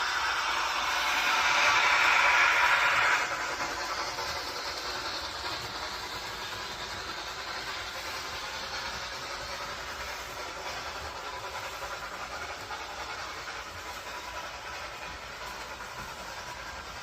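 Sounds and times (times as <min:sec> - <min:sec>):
train running along track: 0:00.0 - 0:17.0.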